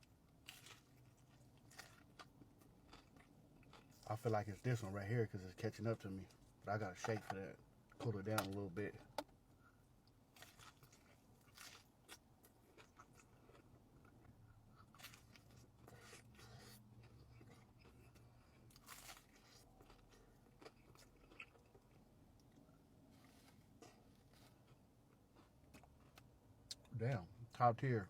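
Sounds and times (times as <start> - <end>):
crunching and chewing food: 0.0 - 27.8.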